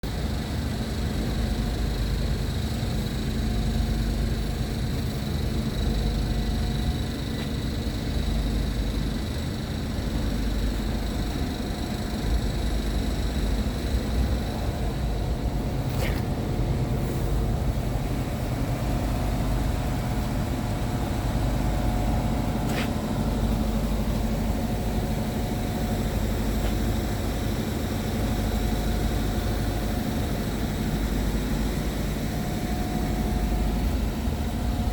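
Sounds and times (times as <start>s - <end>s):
truck diesel engine idling: 0.2s - 34.9s.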